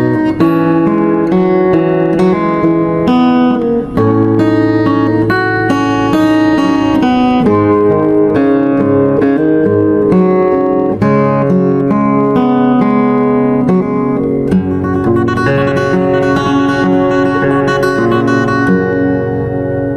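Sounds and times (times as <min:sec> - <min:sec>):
acoustic guitar playing: 0:00.0 - 0:19.9.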